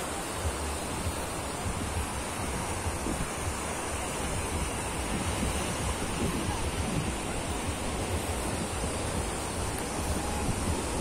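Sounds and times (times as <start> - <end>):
surf waves breaking on sand: 0.0 - 11.0
wind buffeting microphone: 0.4 - 11.0.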